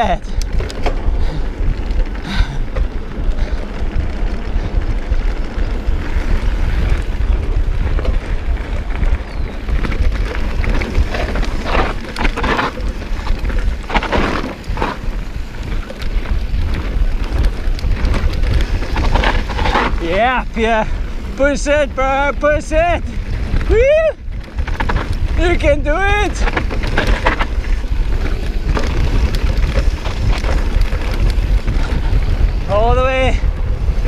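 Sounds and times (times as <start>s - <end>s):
tyres rumbling over dirt: 0.0s - 34.0s
wind buffeting microphone: 0.0s - 34.0s.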